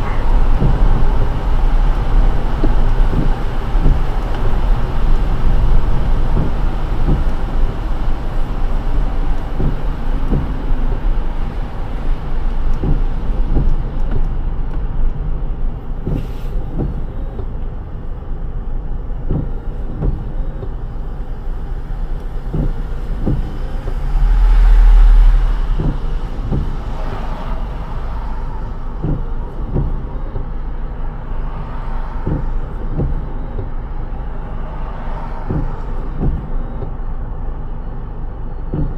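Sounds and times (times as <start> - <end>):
louder low rumble: 0.0 - 38.9
tyres rumbling on wet road: 0.0 - 38.9.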